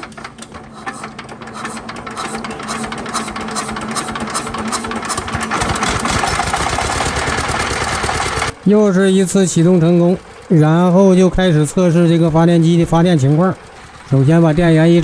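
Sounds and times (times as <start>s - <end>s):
diesel engine starting and knocking: 0.0s - 15.0s.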